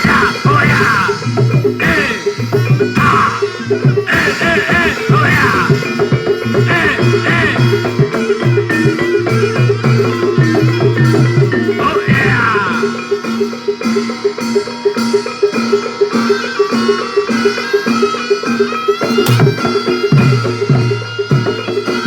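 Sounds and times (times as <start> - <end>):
drum strokes: 0.0 - 22.0
gong-chime notes: 0.0 - 22.0.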